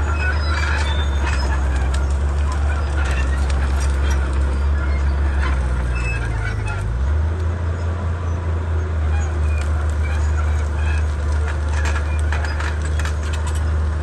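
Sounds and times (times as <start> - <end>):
bulldozer diesel engine drone: 0.0 - 14.0.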